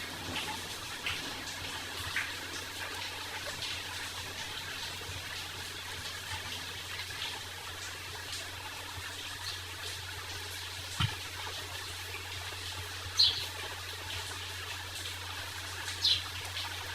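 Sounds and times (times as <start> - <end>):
drips and small splashes: 0.0 - 16.9
rain falling: 0.0 - 16.9.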